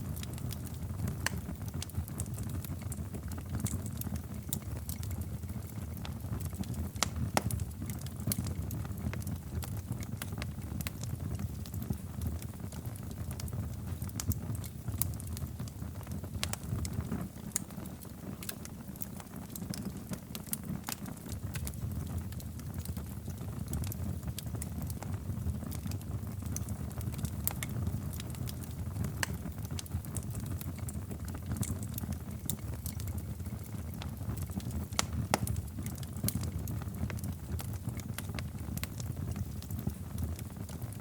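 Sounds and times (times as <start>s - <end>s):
low fire rumble: 0.0s - 41.0s
wood fire crackling and popping: 0.0s - 41.0s.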